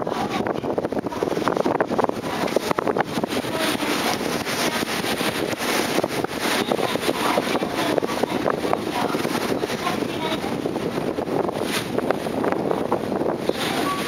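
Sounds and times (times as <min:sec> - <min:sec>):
ship wash: 0:00.0 - 0:14.0
wind buffeting microphone: 0:00.0 - 0:14.0.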